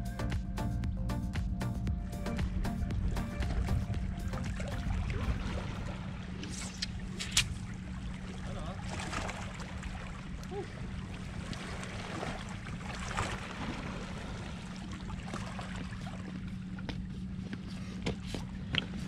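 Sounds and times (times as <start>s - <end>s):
wind rumbling on microphone: 2.0s - 19.0s
waves lapping against rocks: 3.4s - 19.0s.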